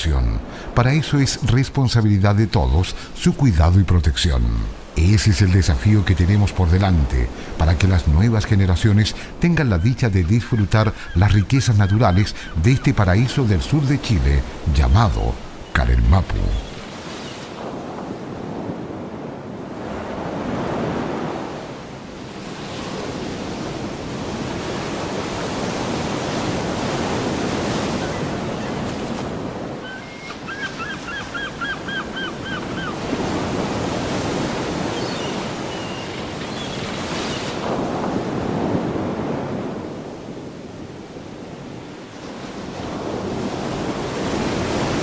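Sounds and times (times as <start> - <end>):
sea waves washing onto shore: 0.0 - 45.0.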